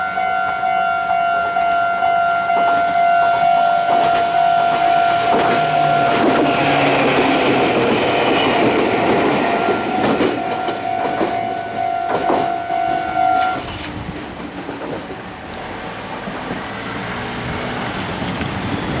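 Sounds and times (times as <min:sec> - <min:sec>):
crossing warning bell ringing: 0:00.0 - 0:16.3
train wheels clacking over rail joints: 0:01.4 - 0:19.0.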